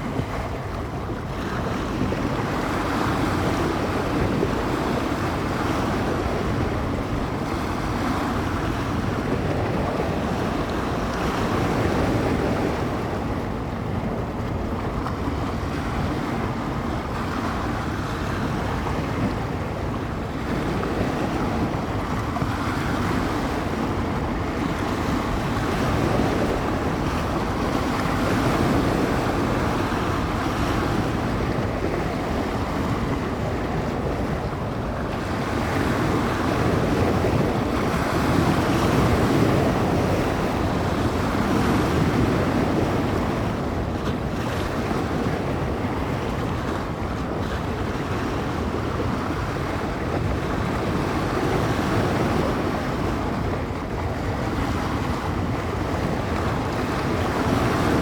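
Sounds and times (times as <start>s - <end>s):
waves washing onto shore: 0.0s - 58.0s
wind buffeting microphone: 0.0s - 58.0s.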